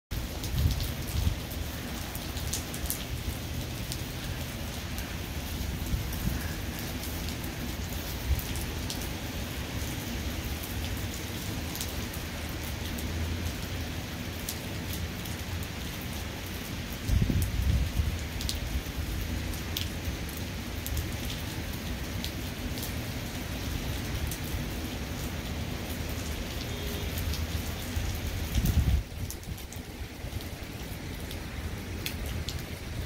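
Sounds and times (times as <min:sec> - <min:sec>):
heavy rain falling: 0:00.1 - 0:33.0
raindrops clicking close by: 0:00.1 - 0:33.0.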